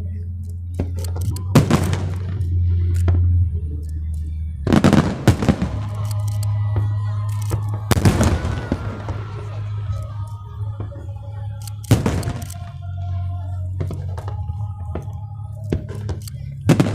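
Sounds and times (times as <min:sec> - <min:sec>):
background music with bass: 0:00.0 - 0:16.9
fireworks bangs and crackling: 0:00.8 - 0:03.2, 0:04.6 - 0:12.8, 0:13.7 - 0:16.9.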